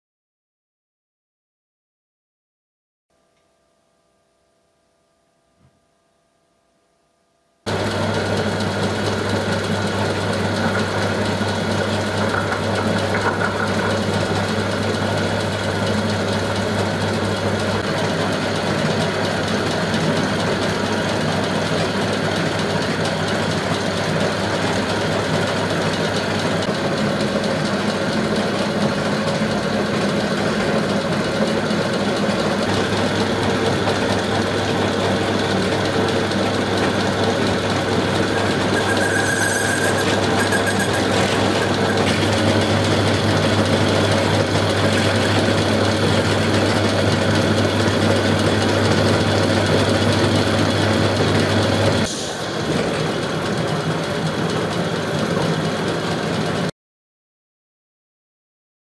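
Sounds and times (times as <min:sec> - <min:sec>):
belt-driven lathe running: 0:07.7 - 0:56.7.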